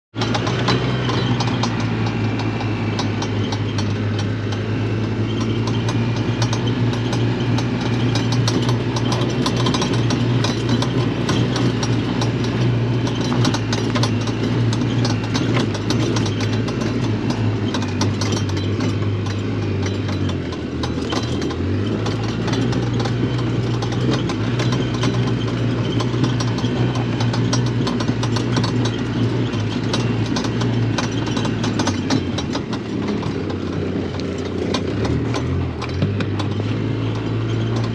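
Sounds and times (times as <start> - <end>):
vehicle engine running with rattle: 0.0 - 37.9.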